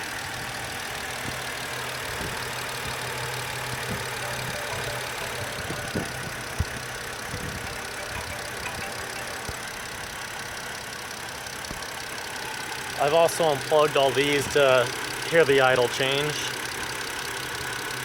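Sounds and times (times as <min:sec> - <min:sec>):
car engine idling rough: 0:00.0 - 0:18.0.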